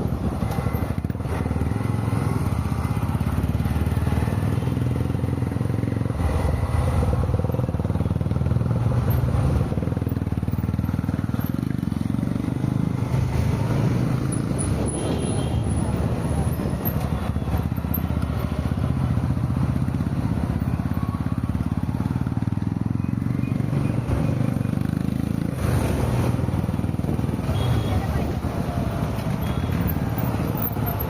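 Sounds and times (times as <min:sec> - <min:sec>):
vehicle engine and tyre rumble: 0:00.0 - 0:31.0.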